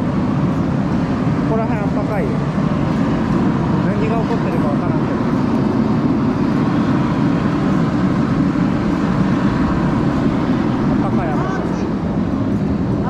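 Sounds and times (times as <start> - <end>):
steam vent hissing: 0.0 - 13.0.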